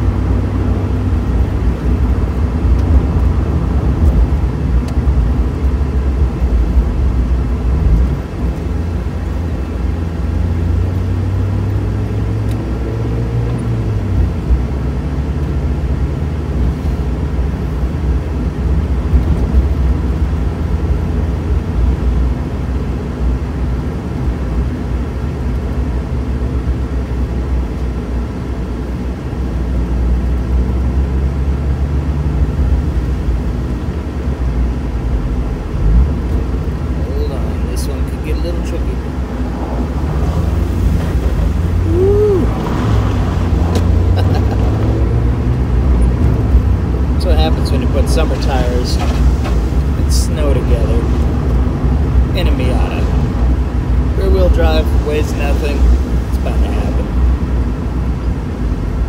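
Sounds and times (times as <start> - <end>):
car engine running: 0.0 - 59.0
road and wind rumble: 0.0 - 59.0.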